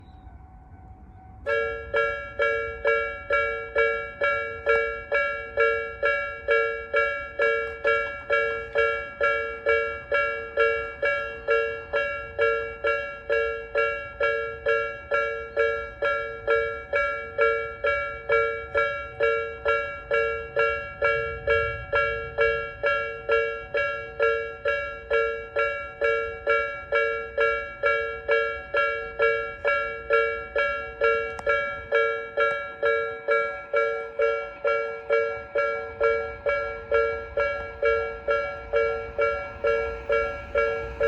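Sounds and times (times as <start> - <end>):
level crossing electronic bell: 1.5 - 41.0.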